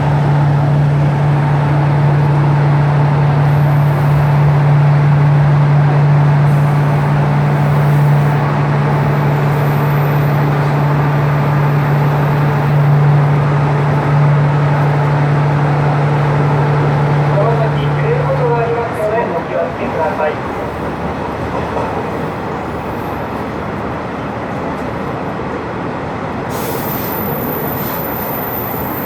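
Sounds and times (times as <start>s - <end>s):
railcar engine hum: 0.0s - 29.0s
train rolling noise: 0.0s - 29.0s.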